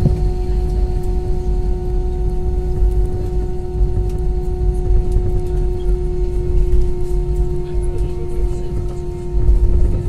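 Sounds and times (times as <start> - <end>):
aircraft cabin low rumble: 0.0 - 10.0
droning hum: 0.0 - 10.0.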